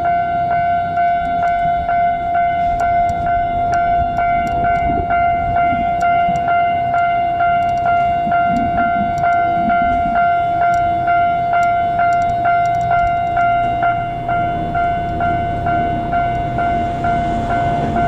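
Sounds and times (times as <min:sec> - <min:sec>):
steady ringing tone: 0:00.0 - 0:18.0.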